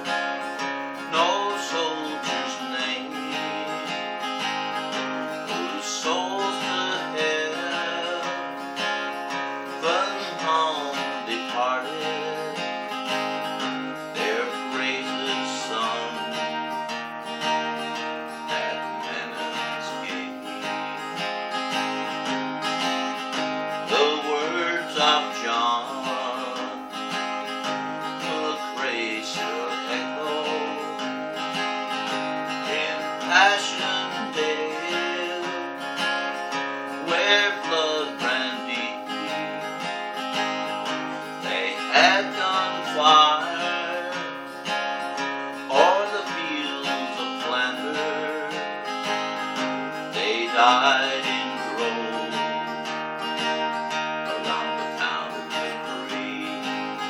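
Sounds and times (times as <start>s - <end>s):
acoustic guitar strummed and picked: 0.0s - 57.0s.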